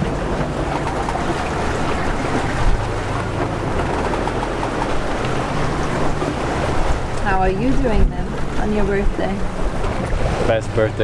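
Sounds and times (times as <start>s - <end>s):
wind and water rushing: 0.0s - 11.0s
wind buffeting microphone: 0.0s - 11.0s.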